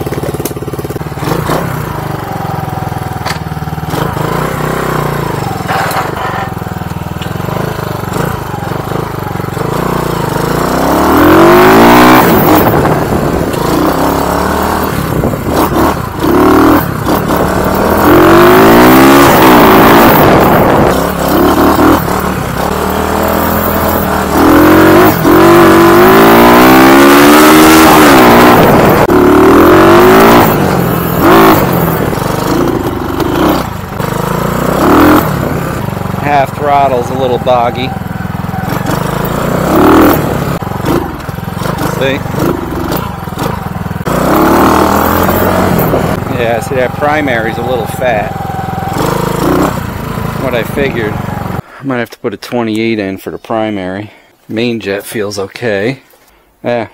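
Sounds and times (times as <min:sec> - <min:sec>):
motorcycle engine idling and revving: 0:00.0 - 0:51.8.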